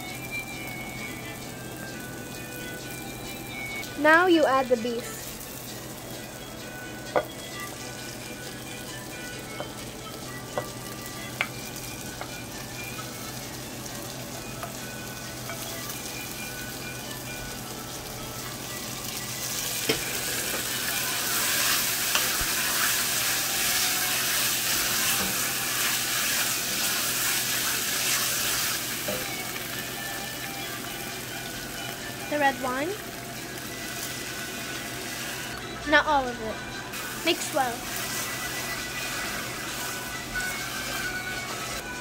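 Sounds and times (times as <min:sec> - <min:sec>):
meat and onion sizzling in pot: 0:00.0 - 0:42.0.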